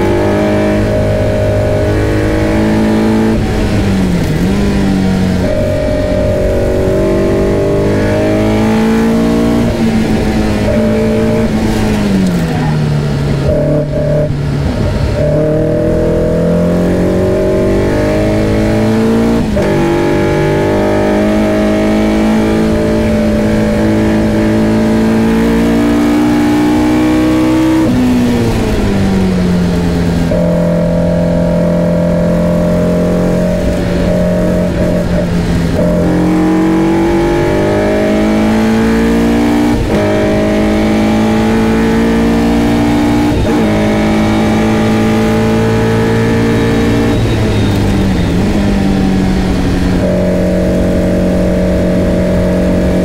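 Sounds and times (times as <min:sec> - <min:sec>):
car engine revving through gears: 0:00.0 - 0:53.0.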